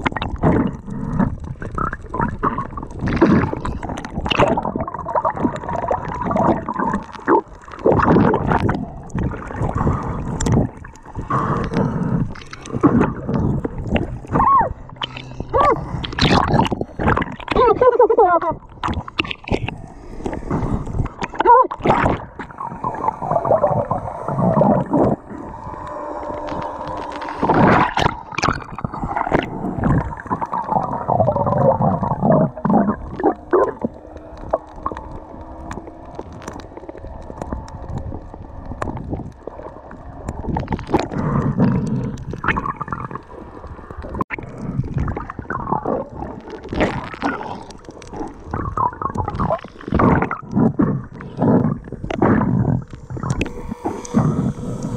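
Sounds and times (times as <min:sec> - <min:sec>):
muffled underwater rushing water: 0:00.0 - 0:54.9.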